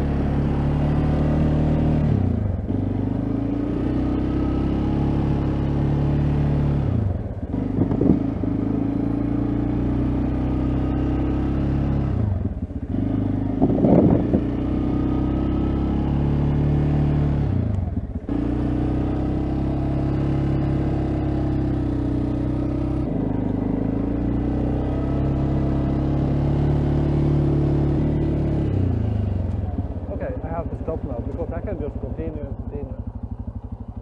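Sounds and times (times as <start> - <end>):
atv engine under load: 0.0 - 34.0.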